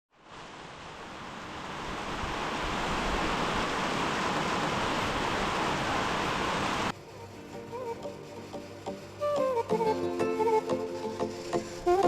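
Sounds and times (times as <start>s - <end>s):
steady rushing hiss: 0.2s - 12.0s.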